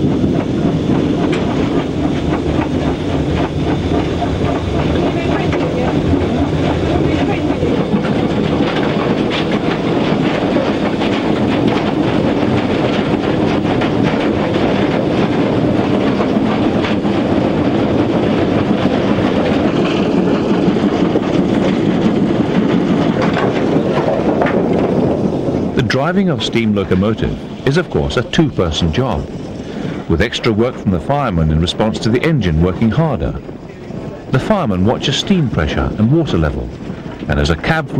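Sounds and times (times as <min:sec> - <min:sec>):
steam locomotive rumble and rattle: 0:00.0 - 0:37.9.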